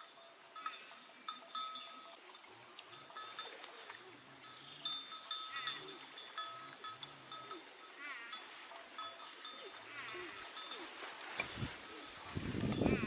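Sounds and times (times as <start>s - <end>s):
farm animals calling: 0.0s - 13.0s.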